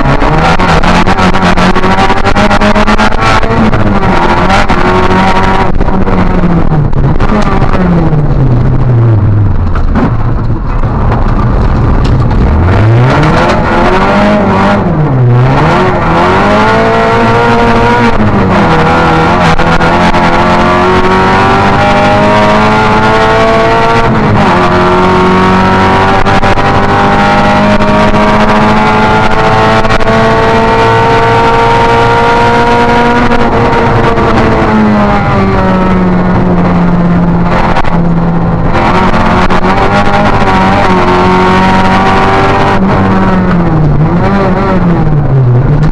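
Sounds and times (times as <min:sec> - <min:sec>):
rally car engine revving: 0:00.0 - 0:45.9.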